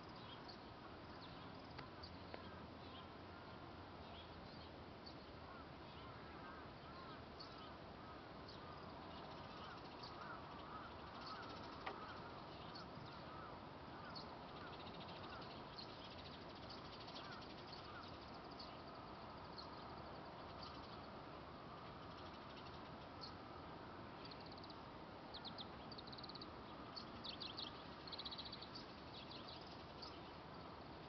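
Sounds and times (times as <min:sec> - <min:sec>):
distant birds chirping: 0:00.0 - 0:30.8
outdoor background hiss: 0:00.0 - 0:31.0.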